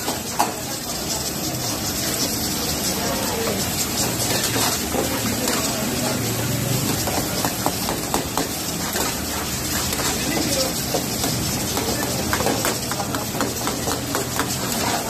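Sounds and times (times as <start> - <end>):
food sizzling and bubbling in pan: 0.0 - 15.0.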